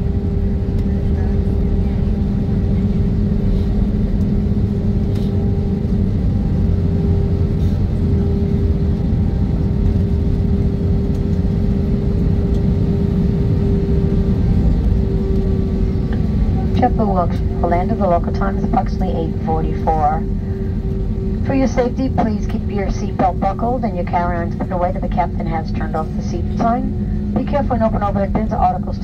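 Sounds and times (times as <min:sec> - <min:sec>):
airliner engine and airframe rumble: 0:00.0 - 0:29.0
constant hum: 0:00.0 - 0:29.0.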